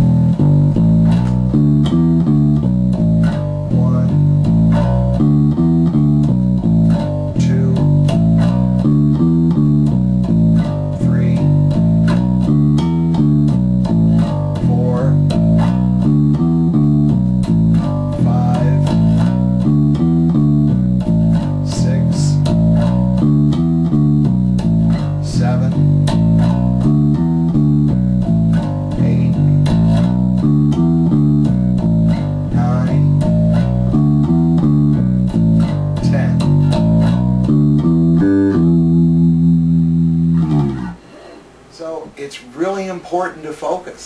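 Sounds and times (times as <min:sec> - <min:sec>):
electric bass playing scale: 0:00.0 - 0:41.7.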